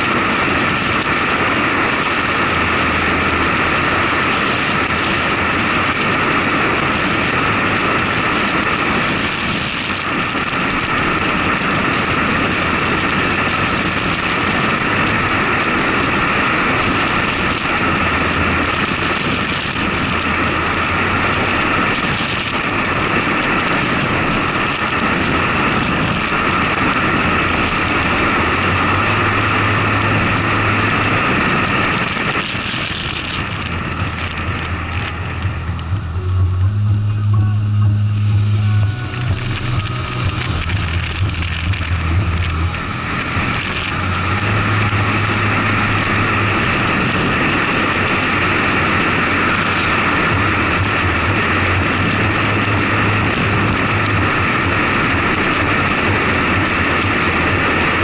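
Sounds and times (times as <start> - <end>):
low engine hum: 0.0 - 58.0
tyre and wind noise: 0.0 - 58.0.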